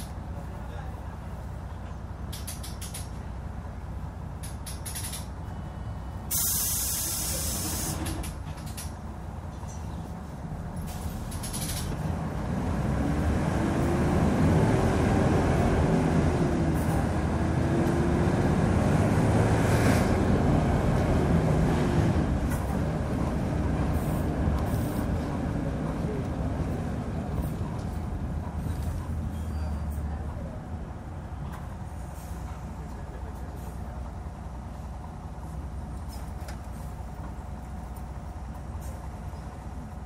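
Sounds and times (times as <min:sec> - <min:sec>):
bus diesel engine under load: 0:00.0 - 0:40.0.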